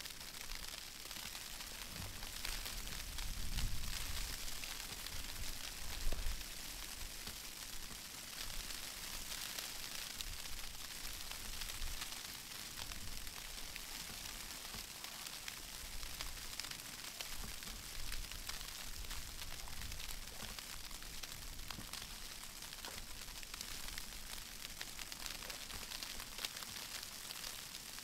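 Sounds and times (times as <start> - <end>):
snow falling with soft hiss: 0.0 - 28.0.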